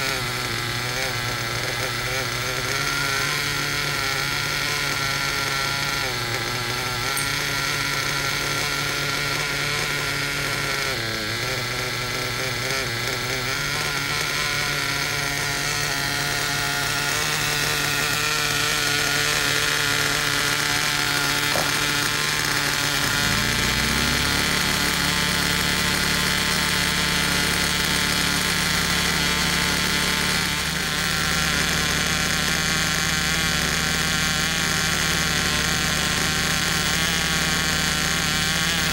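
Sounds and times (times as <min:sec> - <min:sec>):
model engine buzzing: 0:00.0 - 0:38.9.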